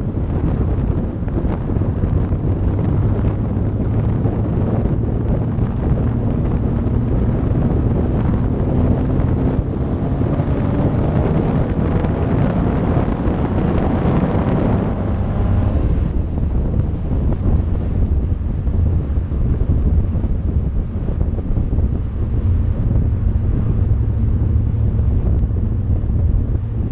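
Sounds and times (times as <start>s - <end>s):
car engine and tyre rumble: 0.0s - 26.9s
wind buffeting microphone: 0.0s - 26.9s.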